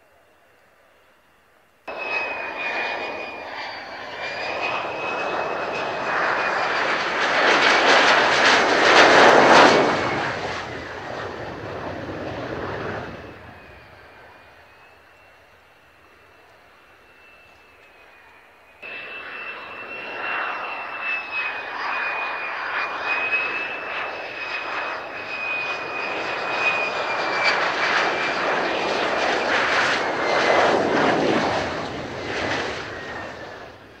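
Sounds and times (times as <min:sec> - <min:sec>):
jet engine whine: 0:00.0 - 0:34.0.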